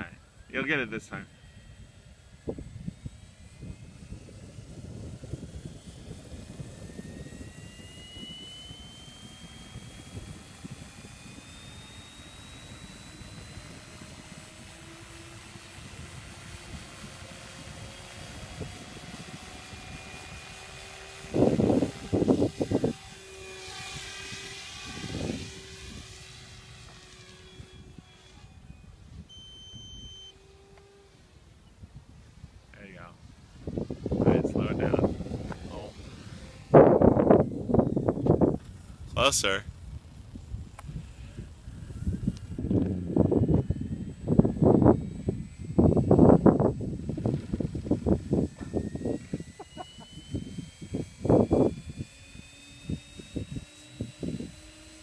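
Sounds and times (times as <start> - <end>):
model helicopter whine: 0.0 - 55.0.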